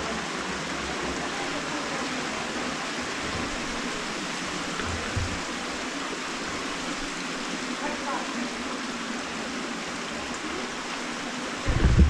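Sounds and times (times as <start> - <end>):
fast-running stream water: 0.0 - 12.0
waterfall: 0.0 - 12.0.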